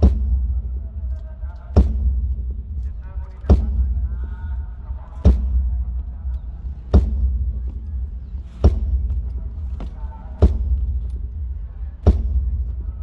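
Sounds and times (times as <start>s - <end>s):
drum hits with low boom: 0.0s - 13.0s.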